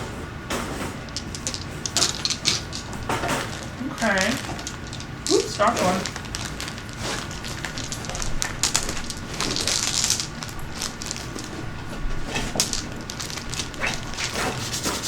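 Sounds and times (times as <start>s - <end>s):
plastic bag crinkling: 1.0s - 15.0s
stones clicking together: 1.1s - 15.0s.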